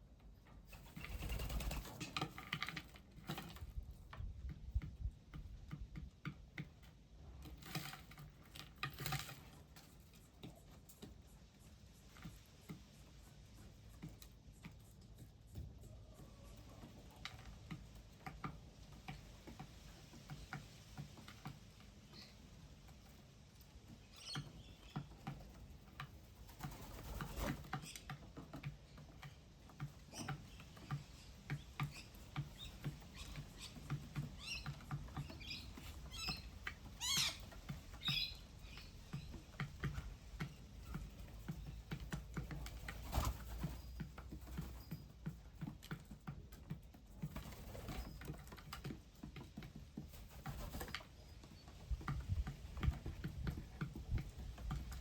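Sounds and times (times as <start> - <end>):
birds pecking and scratching: 0.0 - 55.0.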